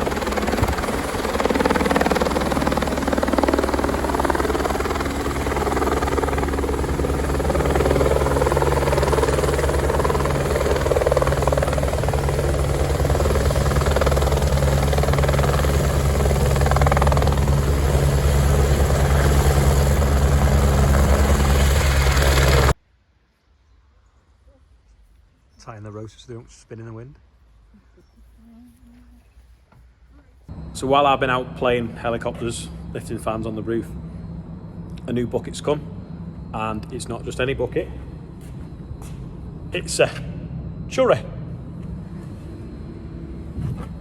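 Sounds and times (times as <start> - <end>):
helicopter rotor and engine: 0.0 - 22.8, 30.5 - 44.0.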